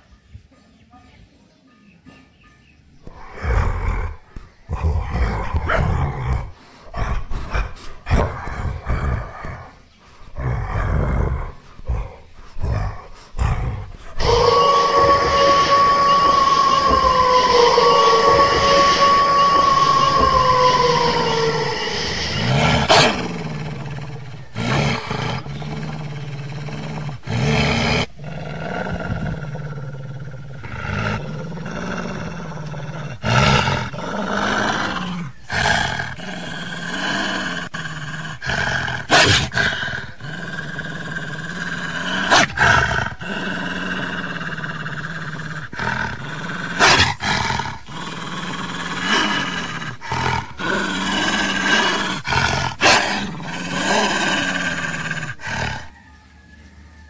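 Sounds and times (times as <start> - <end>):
monstrous growling drone: 3.0 - 56.0.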